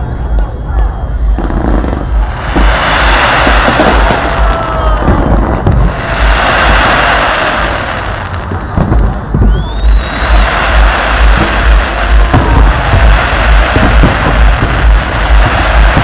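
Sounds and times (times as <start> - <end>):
firework bangs and booms: 0.0 - 16.0
firework crackling: 0.0 - 16.0
rising firework whistle: 0.0 - 16.0.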